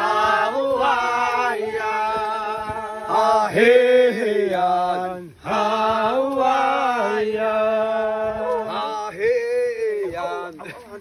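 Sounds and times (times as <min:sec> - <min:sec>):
group singing in unison: 0:00.0 - 0:10.2.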